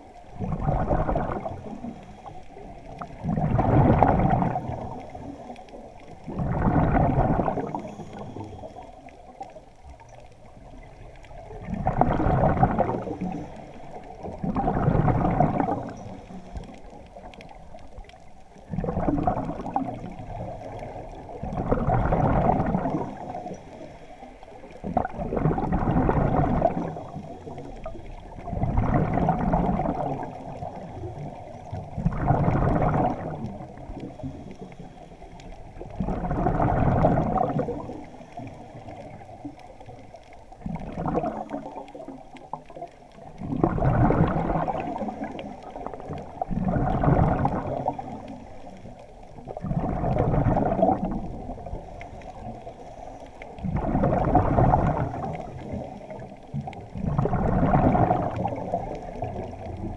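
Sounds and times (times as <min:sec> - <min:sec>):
exhaled bubbles gurgling underwater: 0:00.0 - 0:59.9.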